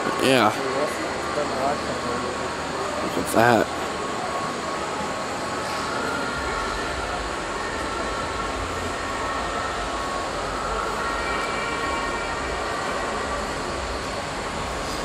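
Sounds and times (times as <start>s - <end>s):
steady indoor rumbling: 0.0s - 15.0s.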